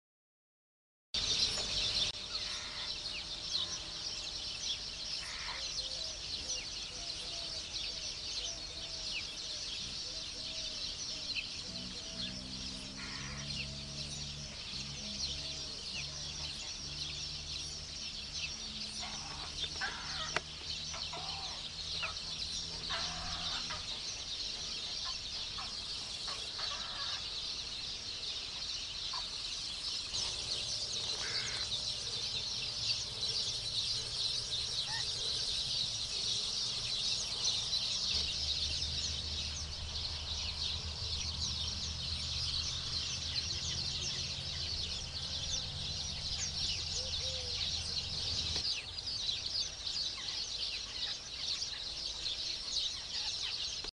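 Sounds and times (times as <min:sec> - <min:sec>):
herons clucking and chattering: 0:01.2 - 0:53.9.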